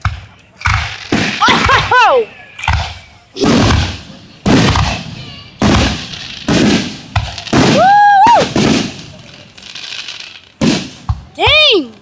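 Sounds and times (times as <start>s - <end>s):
fireworks bursting with bangs: 0.0s - 12.0s.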